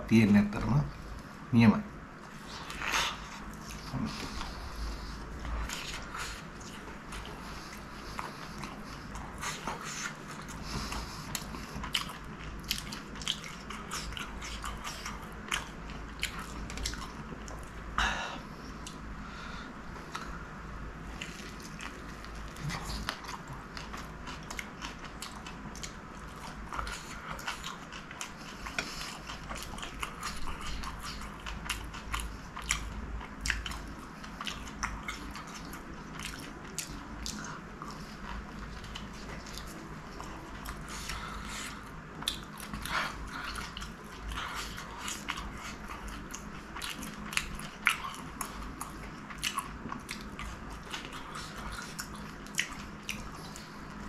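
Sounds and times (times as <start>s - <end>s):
crunchy chewing: 2.2s - 17.8s, 21.1s - 54.0s.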